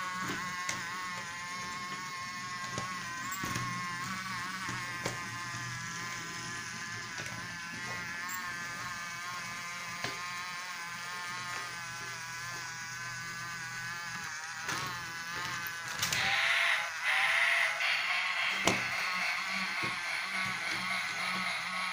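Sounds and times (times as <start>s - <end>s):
toy train motor whining: 0.0s - 21.9s.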